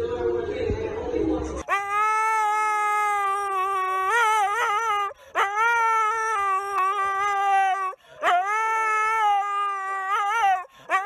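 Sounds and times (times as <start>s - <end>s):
husky howling: 1.7s - 11.0s.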